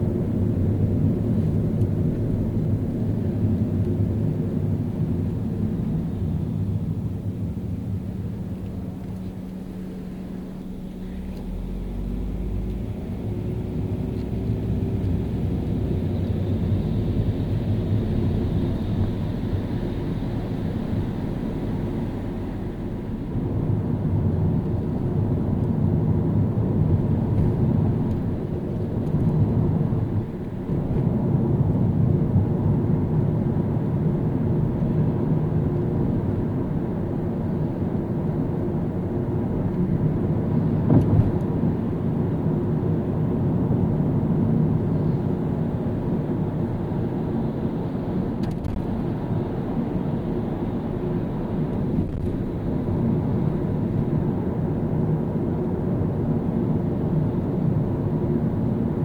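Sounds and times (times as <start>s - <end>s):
car engine and tyre road noise: 0.0s - 59.0s.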